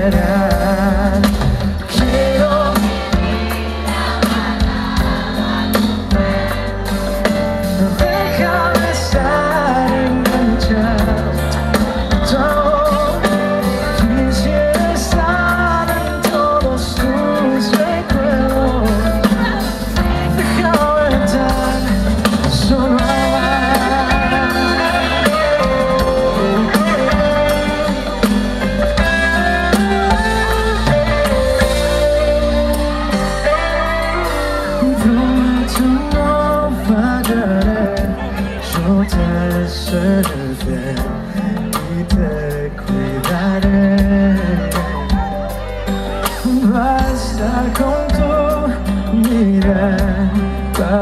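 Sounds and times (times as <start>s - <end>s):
lead vocal singing: 0.0s - 51.0s
live band playing pop ballad: 0.0s - 51.0s
steady drum beat: 0.0s - 51.0s.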